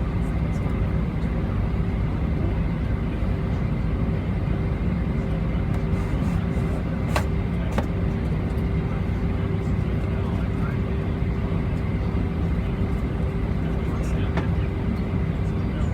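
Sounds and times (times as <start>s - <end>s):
jet engine drone in cabin: 0.0s - 15.9s.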